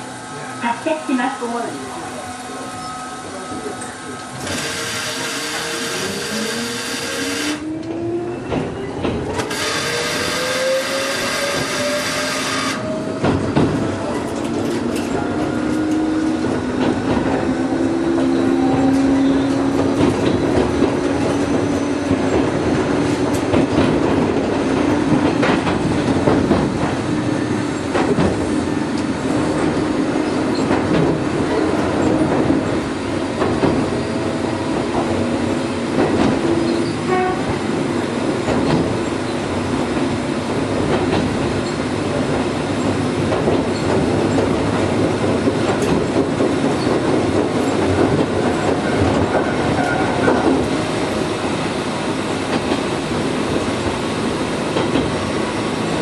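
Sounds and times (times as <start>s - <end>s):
train rolling noise: 0.0s - 56.0s.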